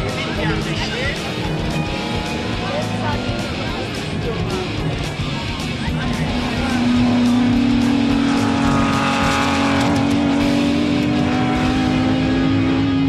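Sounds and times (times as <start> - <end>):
race car engines at high revs: 0.0 - 13.0.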